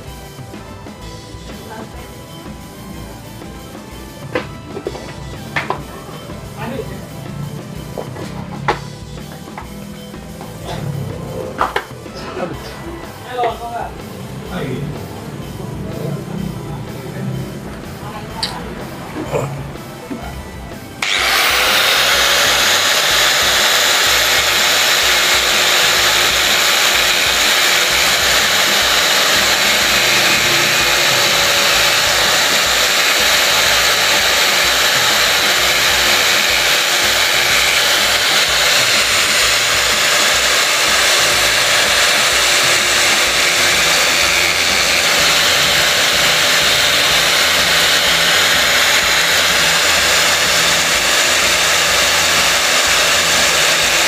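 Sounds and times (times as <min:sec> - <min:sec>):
angle grinder whining: 0:00.0 - 0:54.0.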